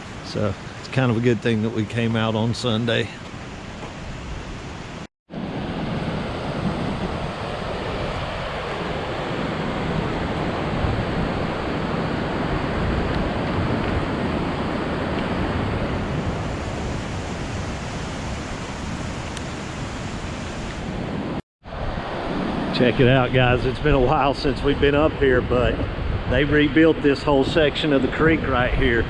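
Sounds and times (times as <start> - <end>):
creek rushing: 0.0 - 25.1.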